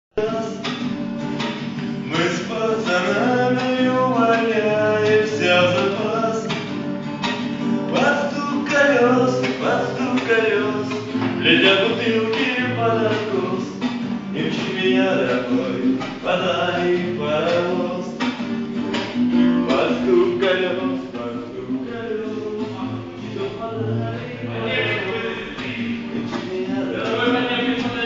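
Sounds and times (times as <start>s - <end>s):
man singing: 0.1s - 18.6s, 19.3s - 28.0s
acoustic guitar strumming: 0.1s - 28.0s.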